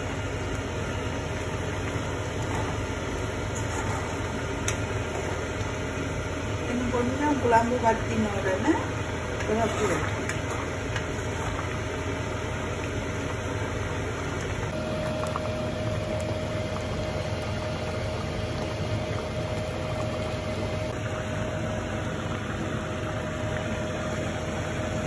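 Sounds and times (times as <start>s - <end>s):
kitchen machinery hum: 0.0s - 25.0s
thin steady whine: 0.0s - 25.0s.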